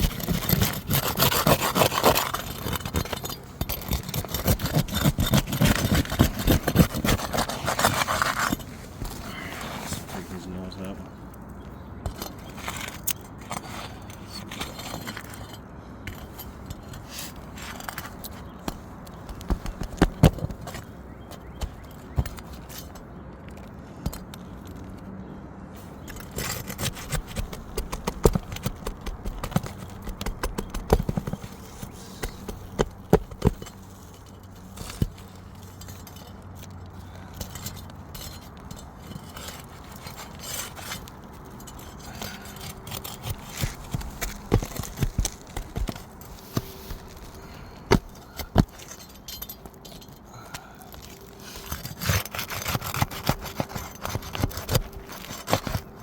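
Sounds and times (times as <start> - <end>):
metal scraping and tapping shingles: 0.0 - 56.0.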